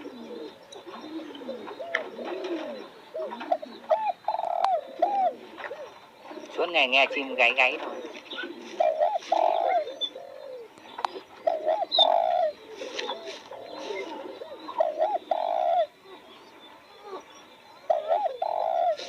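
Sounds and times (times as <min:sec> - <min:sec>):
dove cooing: 0:00.0 - 0:19.0
small birds chirping: 0:00.0 - 0:19.0.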